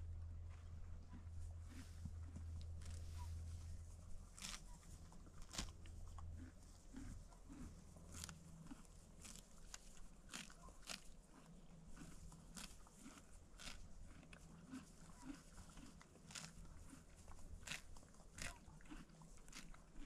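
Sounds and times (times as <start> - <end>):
horse tearing grass: 1.6 - 20.0.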